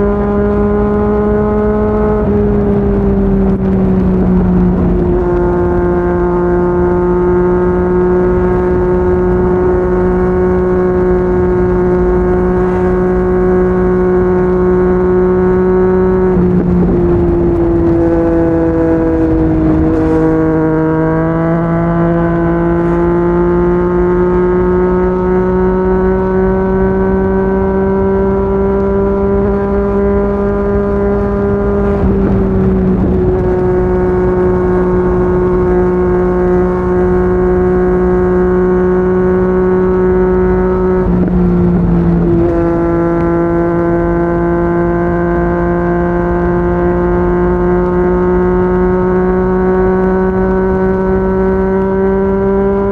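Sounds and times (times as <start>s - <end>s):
low wind rush: 0.0s - 52.9s
motorcycle engine running hard: 0.0s - 52.9s.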